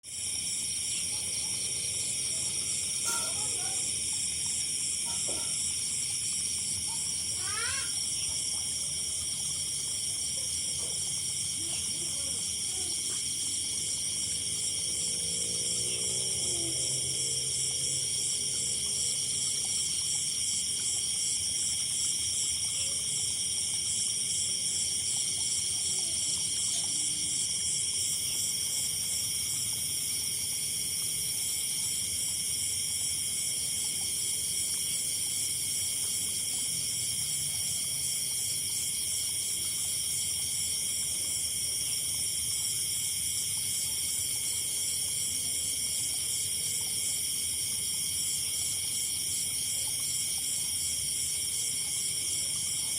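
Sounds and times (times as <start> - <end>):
night insects trilling: 0.0 - 52.9.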